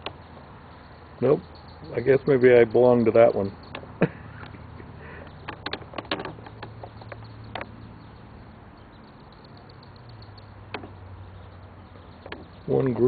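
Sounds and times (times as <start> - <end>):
low steady hum: 0.0 - 13.0
sharp clicks: 0.0 - 13.0.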